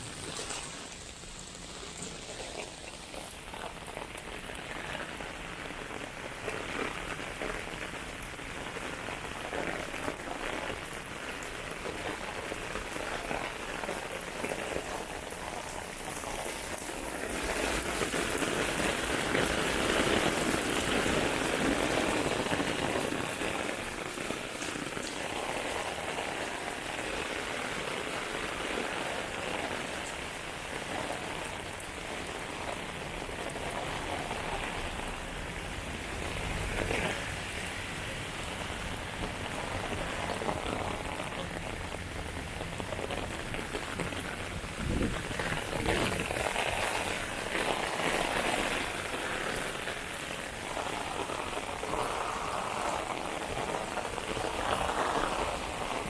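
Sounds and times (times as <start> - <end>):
heavy rain on pavement: 0.0 - 56.0
rain on umbrella: 0.0 - 56.0.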